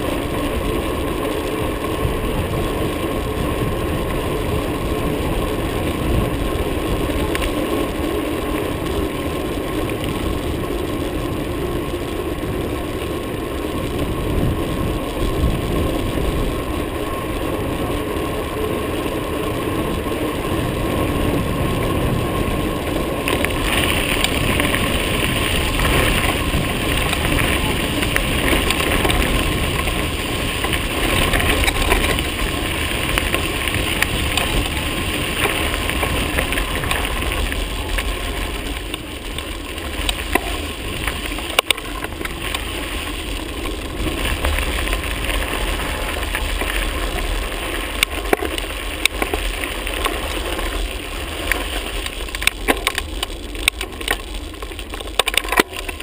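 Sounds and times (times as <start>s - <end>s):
bicycle tyre noise: 0.0s - 56.0s
bike knocking and rattling: 0.0s - 56.0s
wind on microphone: 0.0s - 56.0s.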